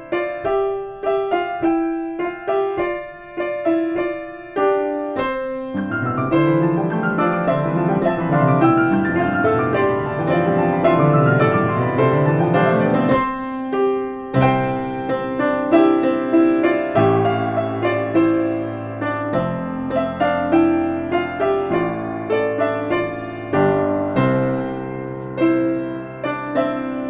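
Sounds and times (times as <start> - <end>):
slow gentle solo piano: 0.0 - 27.0.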